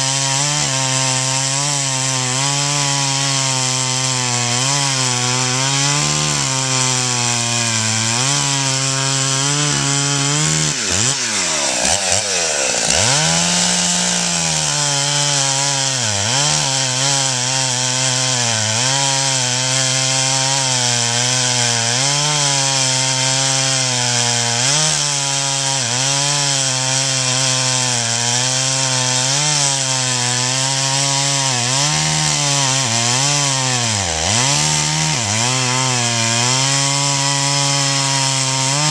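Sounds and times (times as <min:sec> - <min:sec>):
chainsaw running at high revs: 0:00.0 - 0:38.9.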